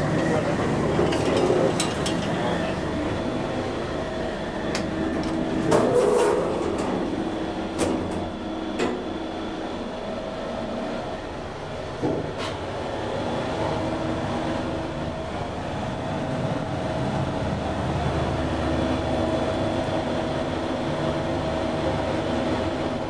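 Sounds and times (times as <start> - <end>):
elevator cab running rumble: 0.0 - 23.0.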